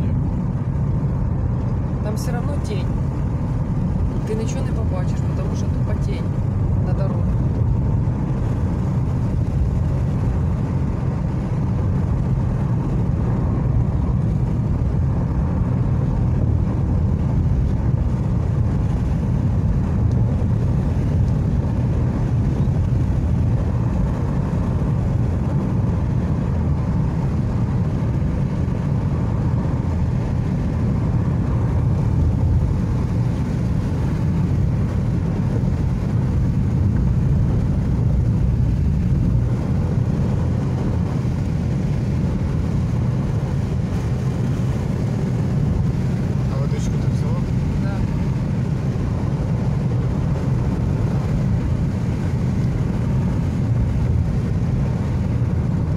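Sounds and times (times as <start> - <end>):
car tyres rumbling on asphalt: 0.0 - 55.9.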